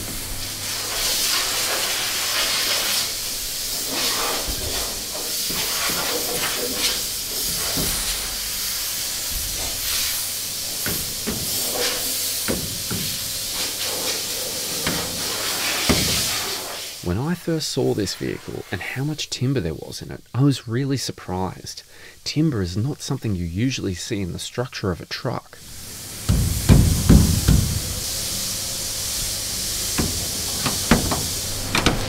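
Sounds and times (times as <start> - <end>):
steady hissing noise: 0.0 - 32.0.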